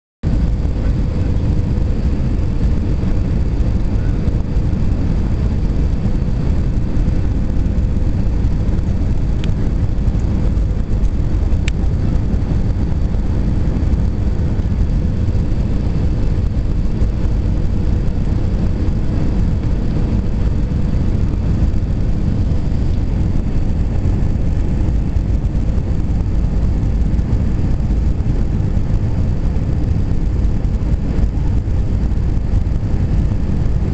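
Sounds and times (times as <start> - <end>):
airplane engines rumbling: 0.2 - 33.9
faint steady hum: 0.3 - 33.9.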